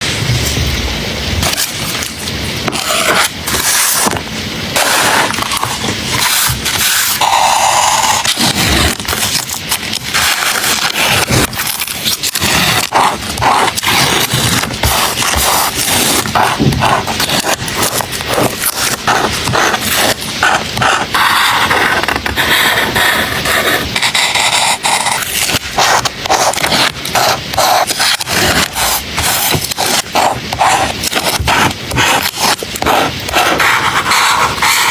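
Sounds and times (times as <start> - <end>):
paper rustling: 1.4 - 34.9
paper tearing or peeling: 1.4 - 34.9.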